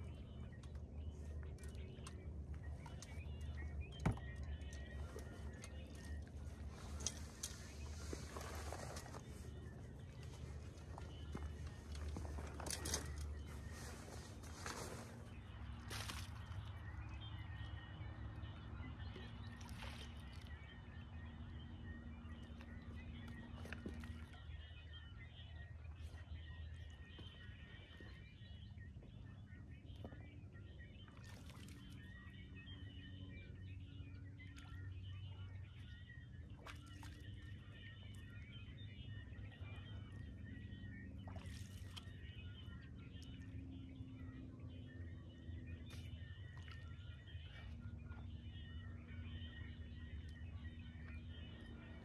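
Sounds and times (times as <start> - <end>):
faint bird chirps: 0.0 - 52.0
small water sounds: 0.0 - 52.0.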